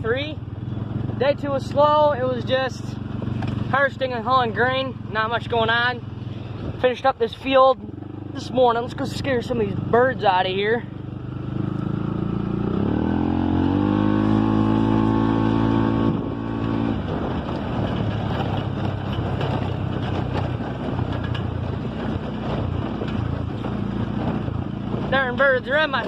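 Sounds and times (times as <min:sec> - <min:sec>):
vehicle engine revving: 0:00.0 - 0:06.9, 0:07.7 - 0:26.0.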